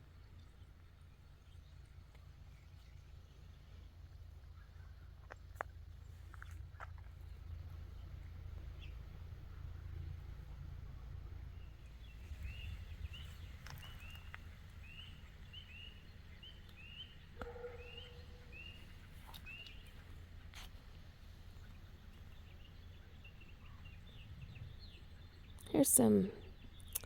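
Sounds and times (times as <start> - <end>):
faint low rumble: 0.0 - 27.0
songbird chirping: 0.0 - 27.0.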